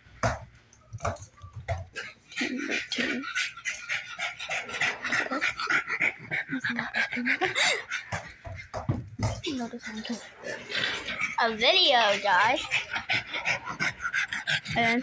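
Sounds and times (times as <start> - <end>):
dog panting: 1.0 - 15.0.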